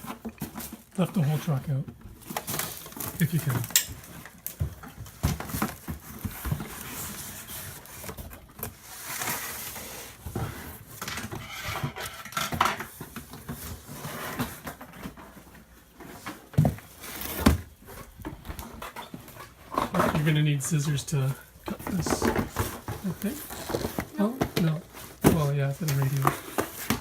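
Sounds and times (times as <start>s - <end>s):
packaging rustling: 0.0s - 11.4s, 12.8s - 27.0s.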